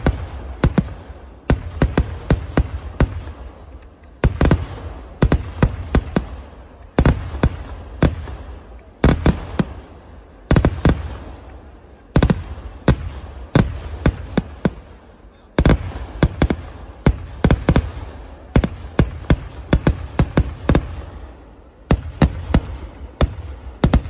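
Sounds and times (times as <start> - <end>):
fireworks bangs: 0.0 - 24.0
fireworks rumble and crackle: 0.0 - 24.0.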